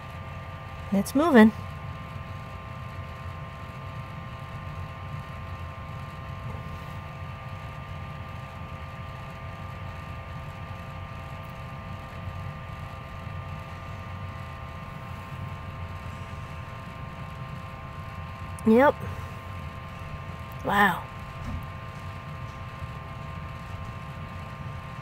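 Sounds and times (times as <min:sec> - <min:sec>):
faint constant tones: 0:00.0 - 0:25.0
machine rumble and hum: 0:00.0 - 0:25.0.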